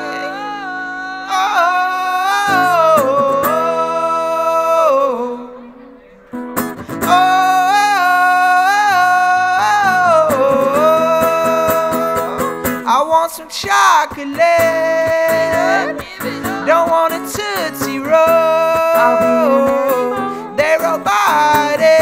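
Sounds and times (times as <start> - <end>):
man singing wordless melody: 0.0 - 6.2, 6.9 - 22.0
strummed acoustic guitar: 0.0 - 22.0.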